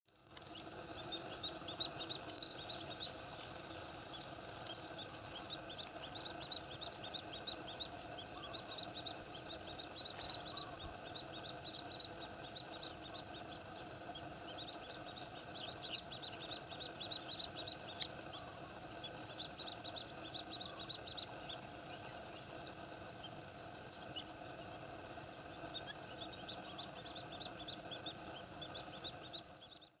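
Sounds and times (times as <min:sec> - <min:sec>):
faint high whine: 0:00.1 - 0:30.0
small birds chirping: 0:00.1 - 0:30.0
low drone: 0:00.2 - 0:30.0.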